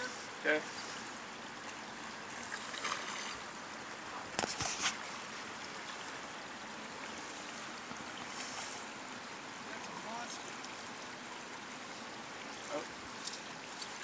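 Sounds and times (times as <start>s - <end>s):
river water rushing: 1.0s - 14.0s.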